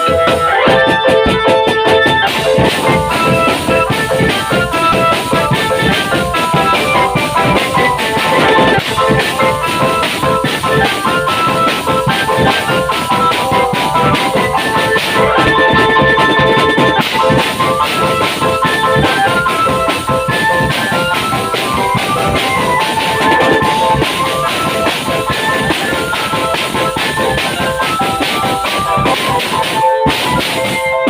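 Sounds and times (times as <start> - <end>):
drum beat: 0.0 - 31.0
melody of held notes: 0.0 - 31.0.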